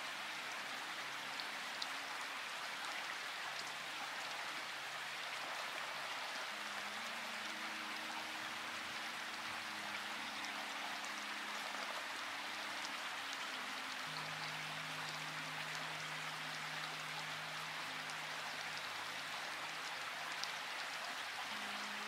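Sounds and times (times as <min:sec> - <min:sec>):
rain hiss: 0:00.0 - 0:22.0
soft low held music notes: 0:00.0 - 0:22.0.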